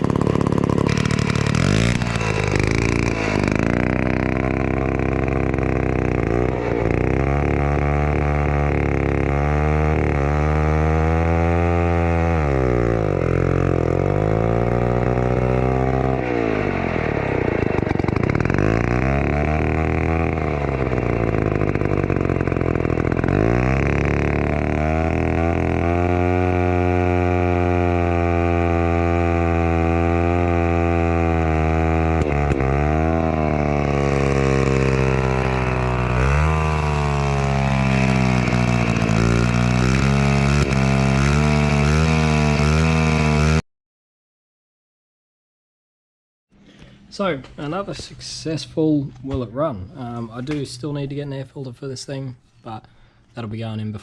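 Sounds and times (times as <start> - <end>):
chainsaw engine running: 0.0 - 43.6.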